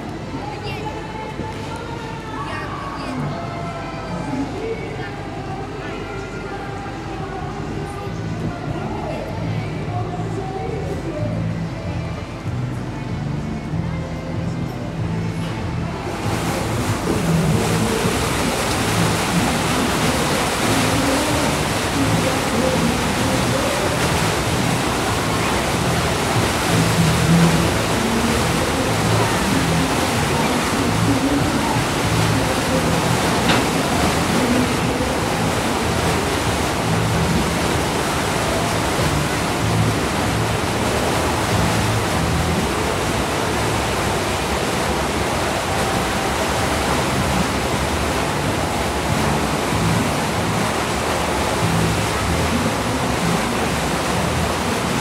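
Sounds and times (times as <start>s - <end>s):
ship engine rumble: 0.0s - 55.0s
water rushing from propellers: 0.0s - 55.0s.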